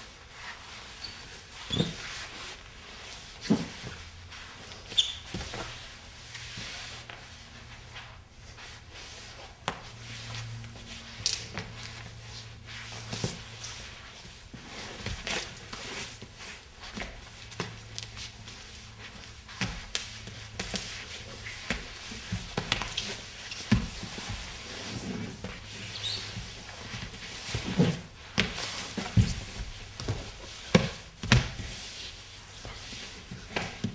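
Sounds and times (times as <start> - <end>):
scuffs and scrapes on floor: 0.1 - 33.9.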